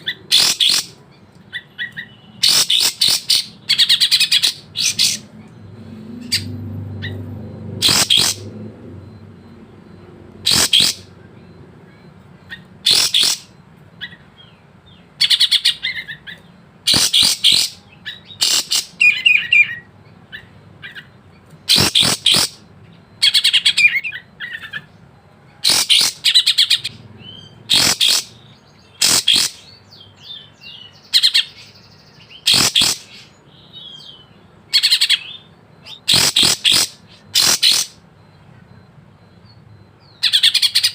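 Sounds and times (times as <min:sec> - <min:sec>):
bird twittering: 0:00.0 - 0:40.9
bulbul singing: 0:00.0 - 0:40.9.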